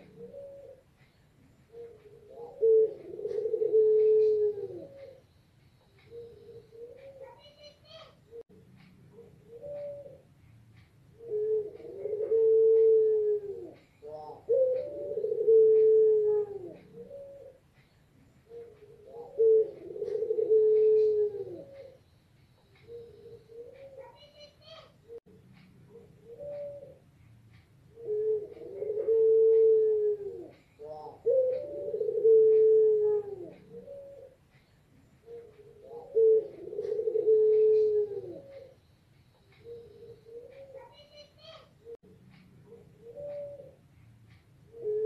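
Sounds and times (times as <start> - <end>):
dove cooing: 0.0 - 45.0.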